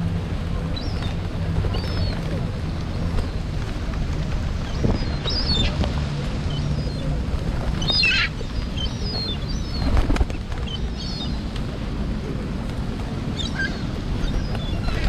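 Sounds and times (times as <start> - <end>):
steady low rumble: 0.0 - 15.0
seagulls calling: 0.2 - 15.0.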